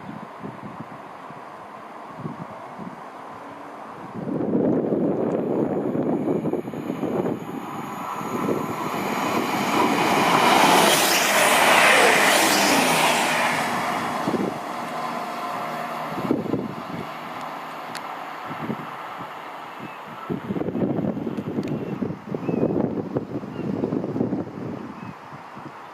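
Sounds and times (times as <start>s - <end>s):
train passing at speed: 0.0s - 22.4s
wind buffeting microphone: 4.0s - 25.8s.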